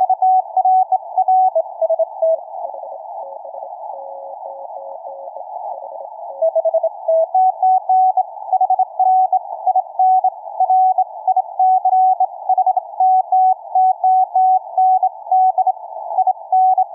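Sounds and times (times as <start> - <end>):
narrow radio hiss: 0.0 - 16.5.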